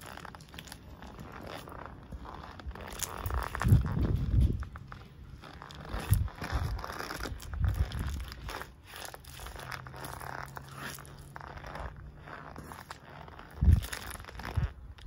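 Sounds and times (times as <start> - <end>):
wet squelching and crunching: 0.0 - 15.0.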